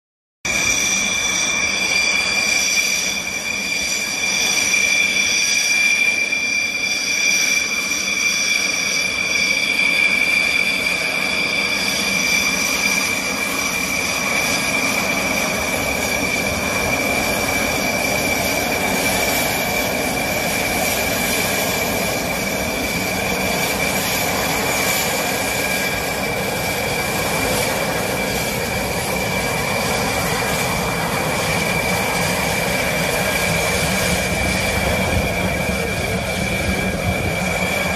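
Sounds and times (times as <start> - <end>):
jet engine whine: 0.5 - 37.9
jet rushing roar: 0.5 - 37.9.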